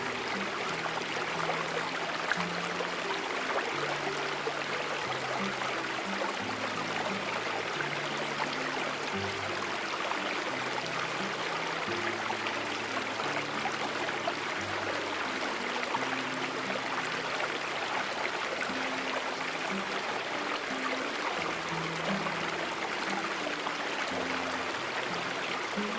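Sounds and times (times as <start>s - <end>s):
rushing water: 0.0s - 25.9s
soft background music: 0.0s - 25.9s.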